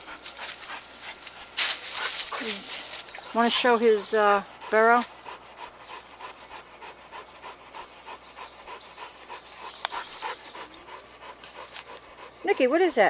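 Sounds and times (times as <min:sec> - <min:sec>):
dog panting quickly: 0:00.0 - 0:02.6, 0:03.3 - 0:13.0.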